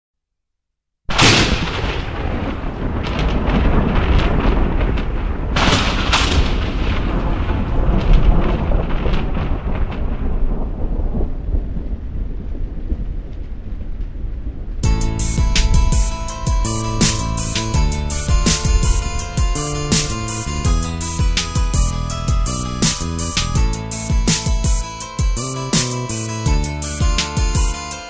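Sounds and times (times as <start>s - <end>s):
deep thunder rumbling: 1.1s - 27.5s
thunder clap: 1.1s - 27.8s.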